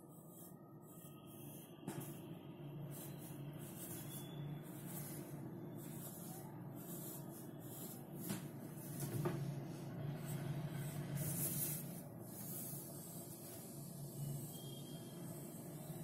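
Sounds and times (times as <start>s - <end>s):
pencil scratching on paper: 0.0s - 2.2s, 2.8s - 16.0s
steady low hum: 0.0s - 16.0s.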